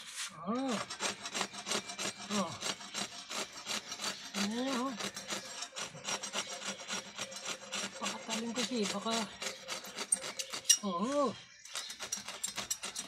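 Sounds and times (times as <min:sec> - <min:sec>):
hacksaw cutting through horn: 0:00.6 - 0:10.8, 0:11.7 - 0:13.0.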